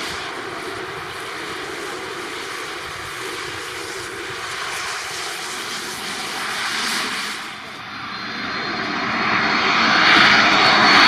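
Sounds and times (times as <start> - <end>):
jet engines rushing with whine: 0.0 - 11.0.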